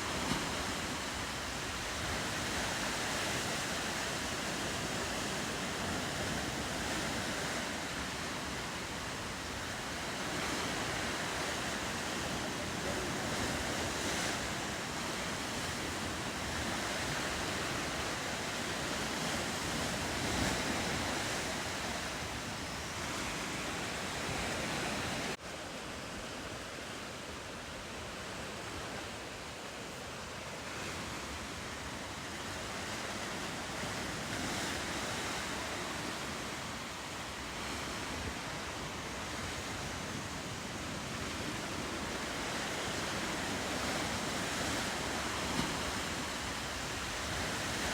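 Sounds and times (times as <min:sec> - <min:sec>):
ocean surf on rocky coast: 0:00.0 - 0:47.9.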